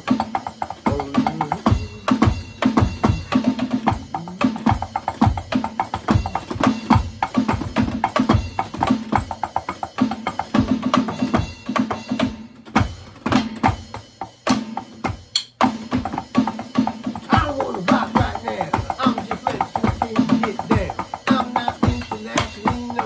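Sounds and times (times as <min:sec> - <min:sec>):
electronic drum kit beat: 0:00.0 - 0:23.0.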